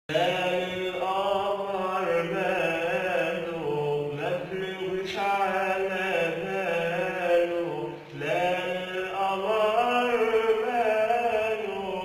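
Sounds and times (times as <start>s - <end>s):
man singing a cappella: 0.1s - 12.0s.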